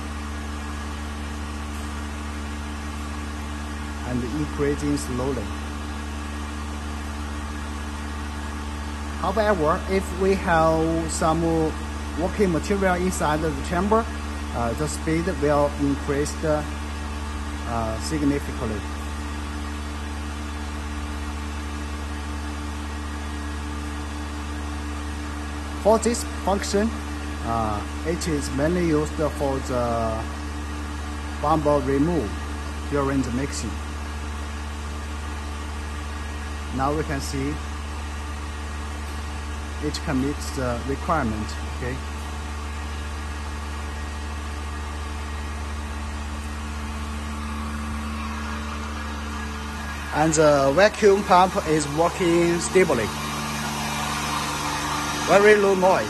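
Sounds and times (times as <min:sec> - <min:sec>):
vacuum pump humming: 0:00.0 - 0:56.0.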